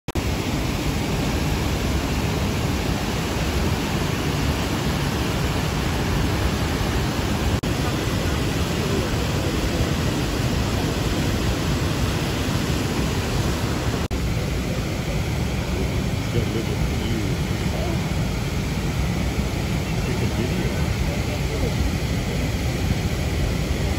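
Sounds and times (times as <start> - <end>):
river rapids and waterfall roaring: 0.2 - 23.9.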